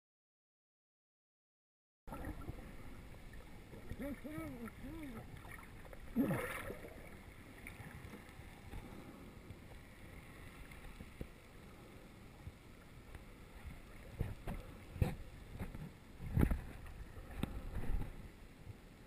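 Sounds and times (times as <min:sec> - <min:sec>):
muffled underwater water noise: 0:02.1 - 0:19.0.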